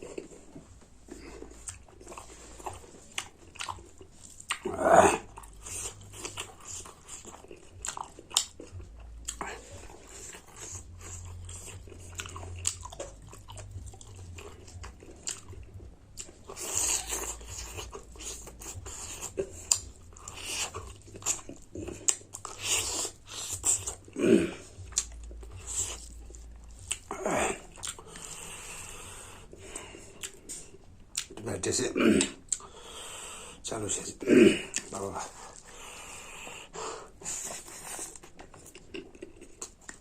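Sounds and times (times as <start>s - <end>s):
close chewing and biting: 0.0s - 40.0s.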